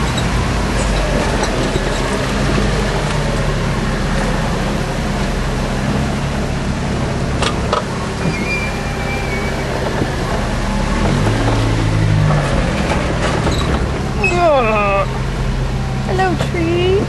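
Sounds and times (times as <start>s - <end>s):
road and body noise: 0.0s - 17.0s
truck engine running: 0.0s - 17.0s.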